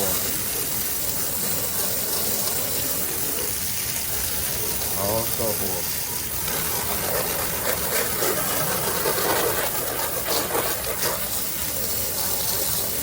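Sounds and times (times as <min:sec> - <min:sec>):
pump running: 0:00.0 - 0:13.0
water spraying from hose: 0:00.0 - 0:13.0.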